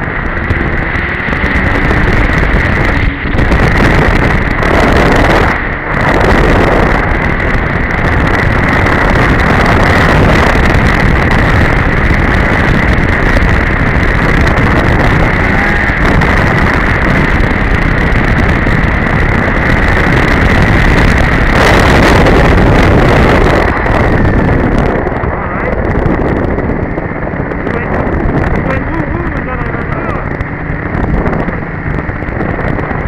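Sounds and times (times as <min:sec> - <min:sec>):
loud rush of noise: 0:00.0 - 0:33.0
snowmobile engine running: 0:00.0 - 0:33.0
wind buffeting microphone: 0:00.0 - 0:33.0.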